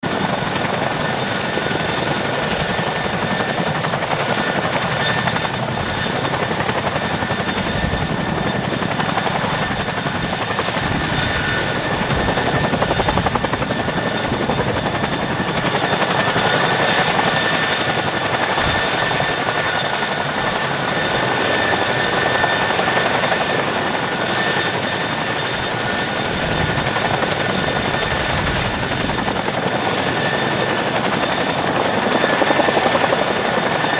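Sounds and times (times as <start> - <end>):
helicopter rotor flutter: 0.0 - 33.9.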